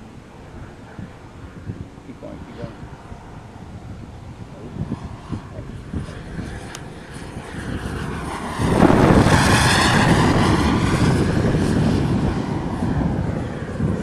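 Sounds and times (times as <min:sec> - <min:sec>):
model jet flying past: 0:00.0 - 0:14.0.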